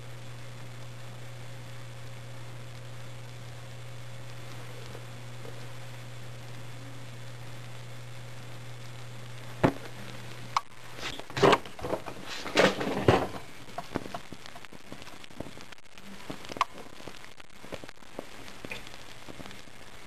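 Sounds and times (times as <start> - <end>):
burning pencil crackling and popping: 0.0 - 20.0.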